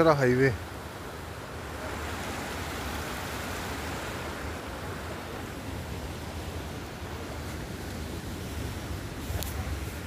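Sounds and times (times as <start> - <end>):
flood water rushing: 0.0 - 10.0.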